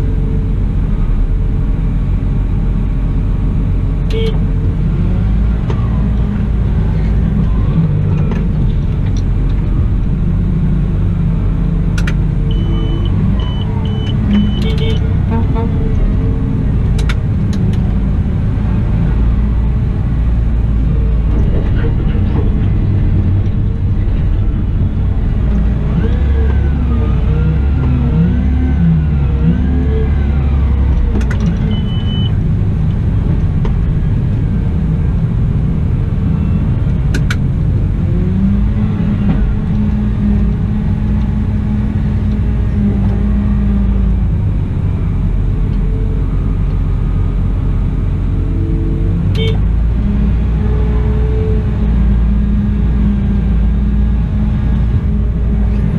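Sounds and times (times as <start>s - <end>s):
wheel loader engine rumbling: 0.0s - 55.9s.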